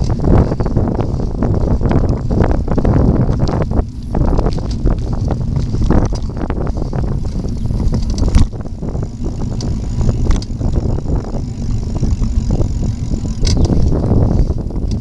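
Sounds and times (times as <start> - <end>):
bicycle rattles and clicks: 0.0 - 15.0
tyres rumbling on path: 0.0 - 15.0
wind buffeting microphone: 0.0 - 15.0.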